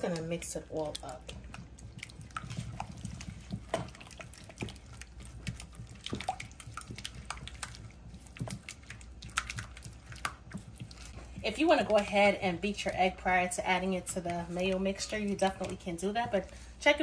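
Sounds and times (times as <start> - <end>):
spatula squelching wet mixture: 0.0 - 17.0.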